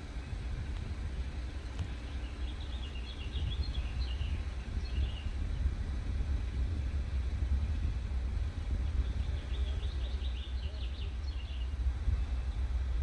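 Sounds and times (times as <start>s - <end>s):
steady low rumble: 0.0s - 13.0s
small birds chirping: 1.1s - 5.8s, 6.7s - 13.0s.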